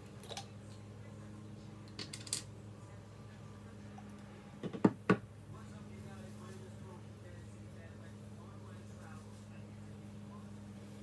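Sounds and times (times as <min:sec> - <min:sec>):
low electrical hum: 0:00.0 - 0:11.0
faint indistinct voices: 0:00.3 - 0:11.0.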